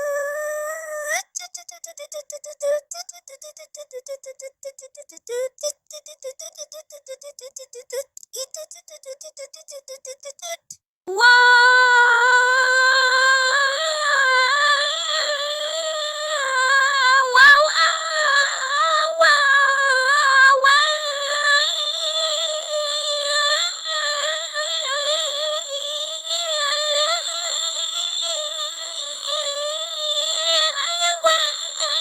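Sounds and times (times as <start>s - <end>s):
synthetic voice singing a vowel: 0.0s - 32.0s.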